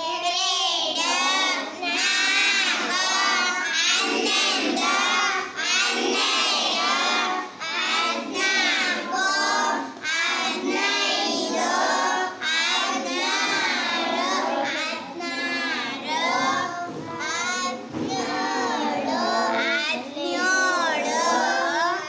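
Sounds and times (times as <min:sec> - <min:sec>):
children singing in unison: 0:00.0 - 0:22.0.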